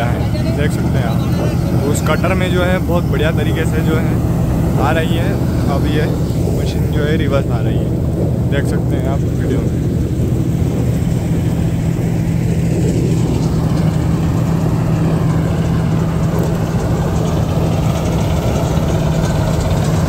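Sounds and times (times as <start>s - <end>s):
combine harvester engine droning: 0.0s - 20.0s.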